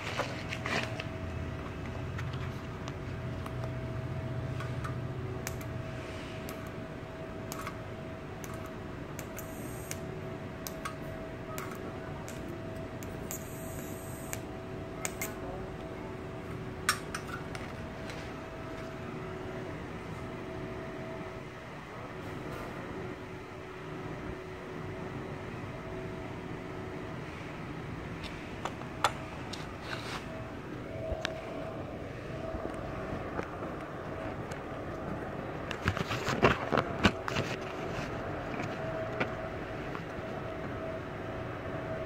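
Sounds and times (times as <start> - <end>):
small fan humming: 0.0 - 22.0, 23.1 - 42.0.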